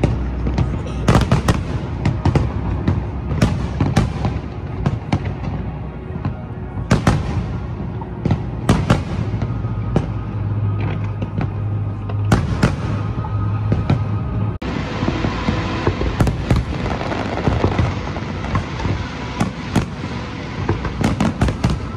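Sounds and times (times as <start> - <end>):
fireworks bursting: 0.0 - 21.9.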